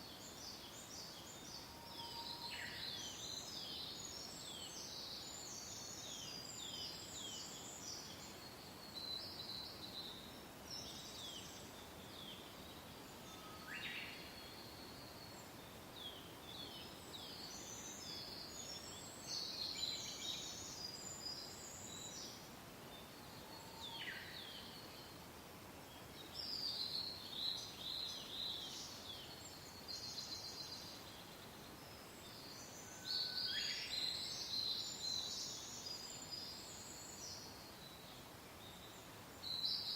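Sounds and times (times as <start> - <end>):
soft wind: 0.0 - 39.9.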